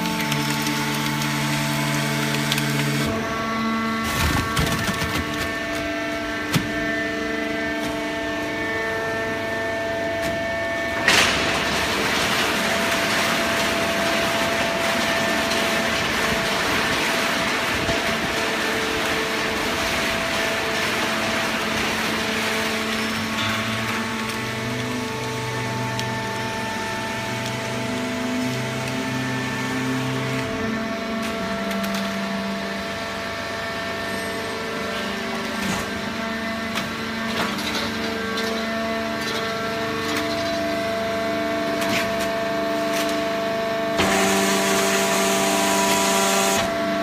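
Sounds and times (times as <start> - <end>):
hydraulic machine humming: 0.0 - 47.0.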